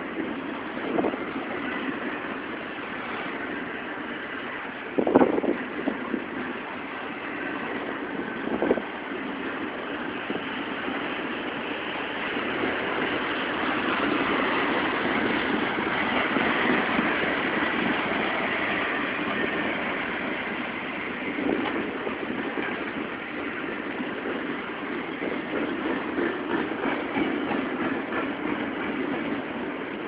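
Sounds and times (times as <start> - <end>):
train wheels rolling on rail: 0.0 - 30.0.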